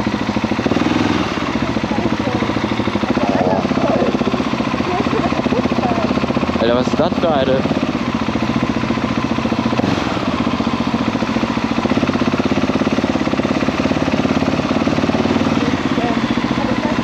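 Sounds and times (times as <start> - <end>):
motorcycle engine running at low revs: 0.0 - 17.0.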